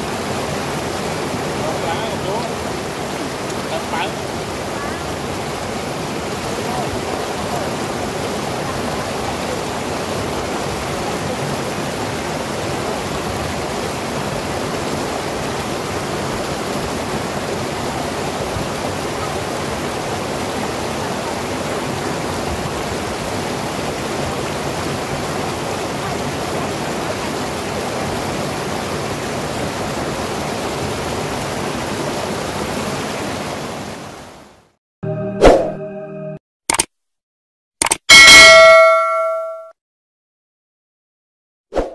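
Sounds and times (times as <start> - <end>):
river rapids rushing: 0.0 - 34.2.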